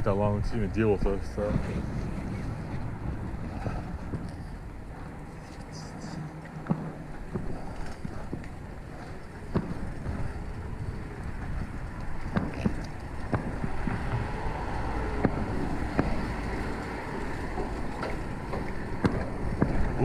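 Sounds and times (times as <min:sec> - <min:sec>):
low road rumble: 0:00.0 - 0:20.0
wind rushing over microphone: 0:00.0 - 0:20.0.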